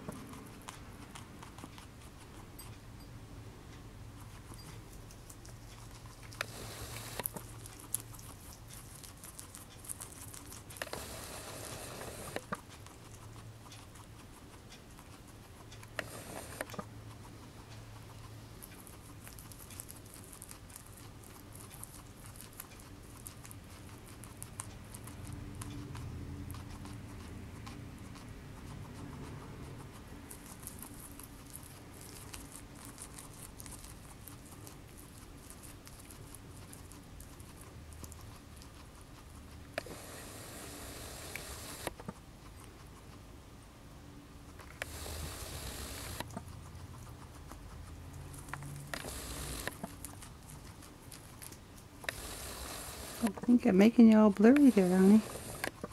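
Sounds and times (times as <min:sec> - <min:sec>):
guinea pig chewing leaves: 0:00.0 - 0:55.9.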